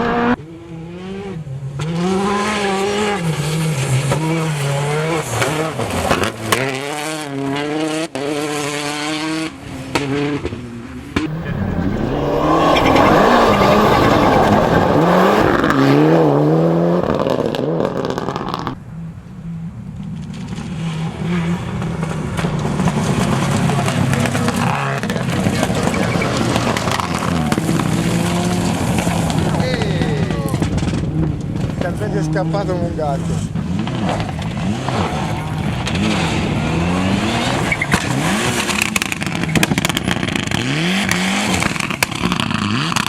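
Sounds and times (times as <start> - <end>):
rally car engine revving: 0.0 - 18.8, 19.7 - 43.0
car passing with tyre noise: 0.0 - 43.0.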